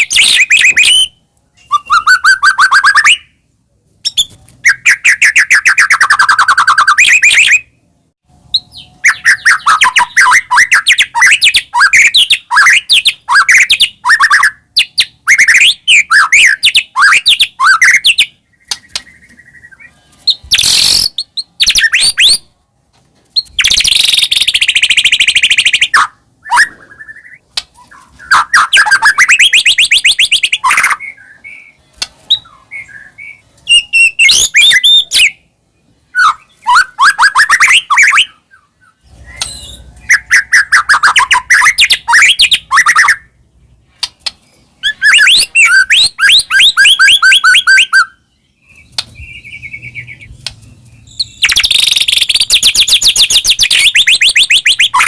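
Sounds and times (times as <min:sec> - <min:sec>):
songbird singing trills and whistles: 0:00.0 - 0:22.5, 0:23.3 - 0:43.4, 0:44.0 - 0:55.0.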